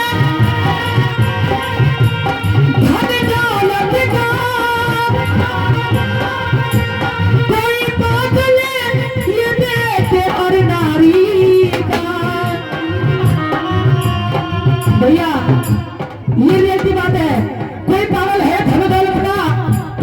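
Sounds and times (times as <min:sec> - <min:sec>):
tabla drum rhythm: 0:00.0 - 0:20.0.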